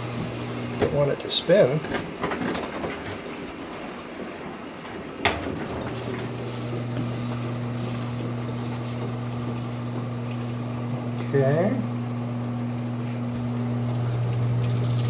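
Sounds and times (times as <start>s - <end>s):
drain pump humming: 0.0s - 15.0s.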